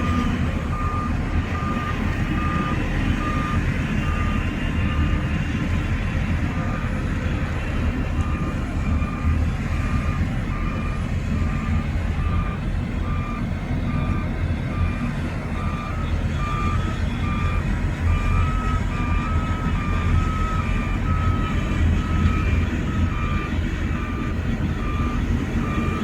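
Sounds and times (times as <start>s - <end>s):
diesel engines rumbling: 0.0s - 26.0s
reversing alarm beeping: 0.0s - 26.0s.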